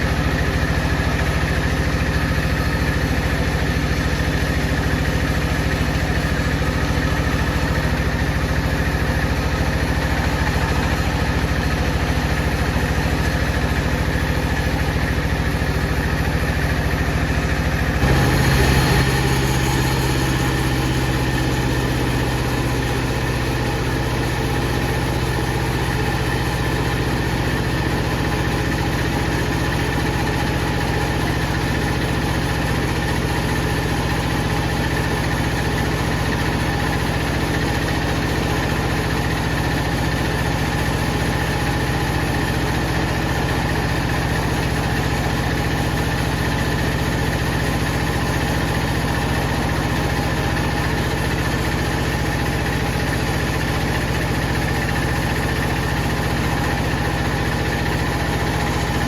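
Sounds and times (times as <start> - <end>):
wood saw machinery droning: 0.0 - 59.0.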